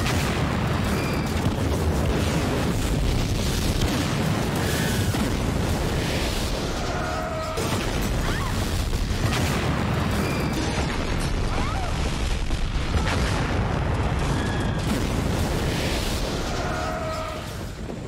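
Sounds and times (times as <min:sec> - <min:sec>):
building exploding: 0:00.0 - 0:18.0
crackles of debris: 0:00.0 - 0:18.0.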